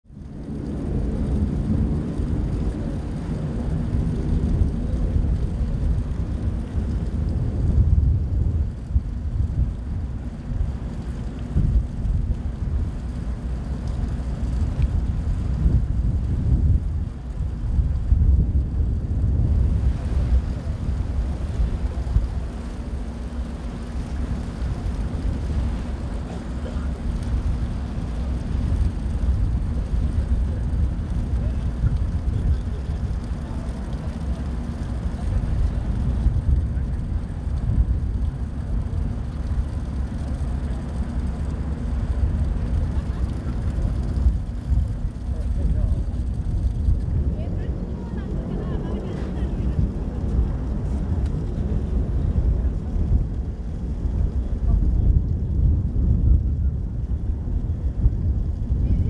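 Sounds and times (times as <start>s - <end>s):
ship engine rumble: 0.0s - 59.0s
wind buffeting microphone: 0.0s - 59.0s.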